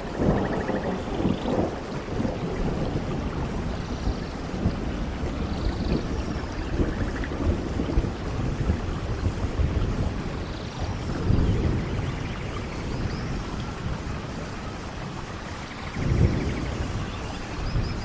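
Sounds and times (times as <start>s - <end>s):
low rolling thunder: 0.0s - 18.0s
steady rain: 0.0s - 18.0s.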